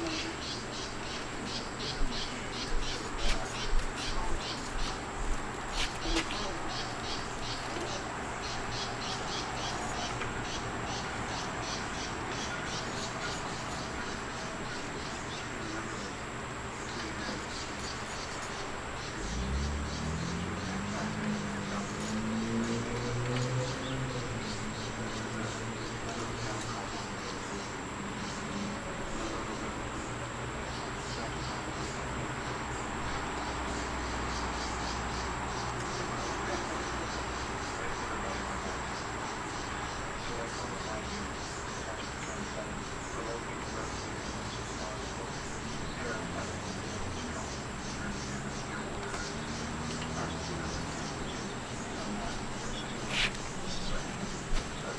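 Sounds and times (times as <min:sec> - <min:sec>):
background hiss: 0:00.0 - 0:54.9
insects chirping: 0:00.0 - 0:54.9.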